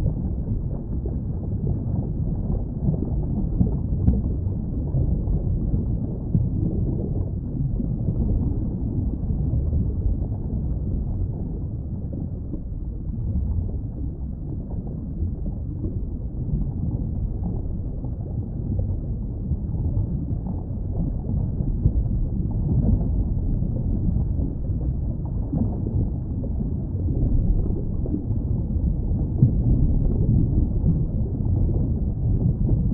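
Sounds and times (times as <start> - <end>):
underwater rumble and wash: 0.0 - 32.9.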